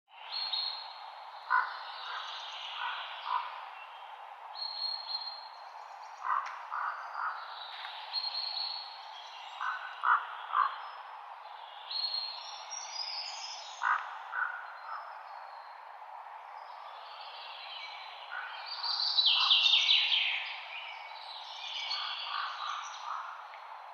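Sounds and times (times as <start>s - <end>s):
wind rustling through trees: 0.1s - 23.9s.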